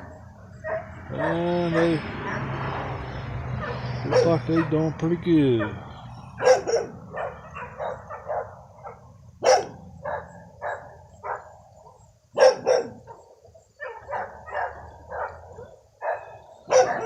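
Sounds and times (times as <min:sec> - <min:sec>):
dog barking: 0:00.0 - 0:02.6, 0:03.5 - 0:04.9, 0:05.5 - 0:17.0.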